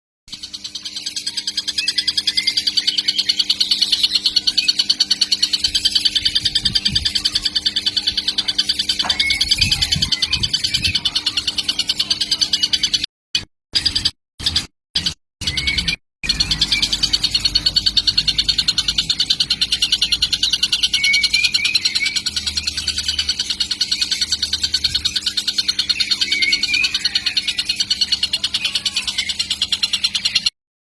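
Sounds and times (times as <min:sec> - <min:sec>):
kingfisher calling: 0:00.4 - 0:13.0, 0:15.4 - 0:30.5.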